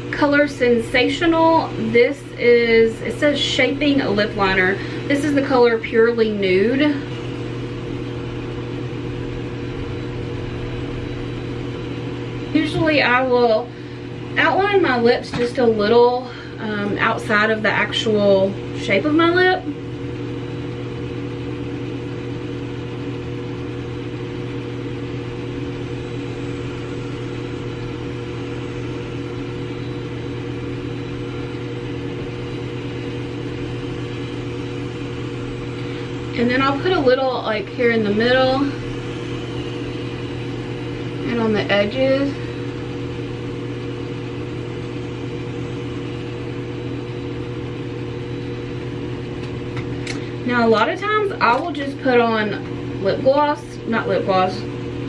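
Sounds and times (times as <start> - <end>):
motor or fan humming: 0.0 - 55.0.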